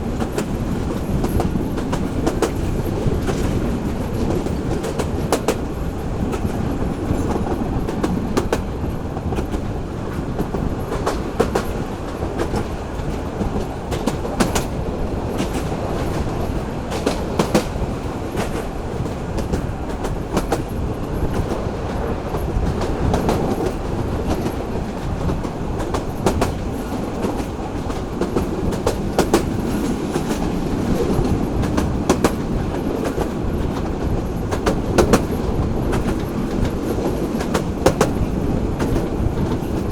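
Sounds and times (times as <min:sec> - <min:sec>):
train rumble: 0:00.0 - 0:39.9
wheels clicking over rail joints: 0:00.0 - 0:39.9.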